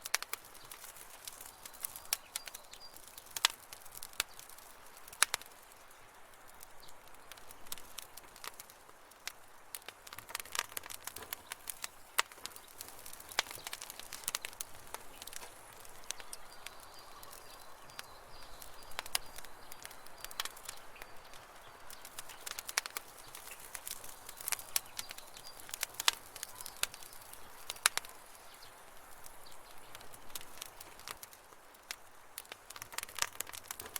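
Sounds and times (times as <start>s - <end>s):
campfire crackling and popping: 0.0s - 33.9s
fire soft hiss: 0.0s - 33.9s.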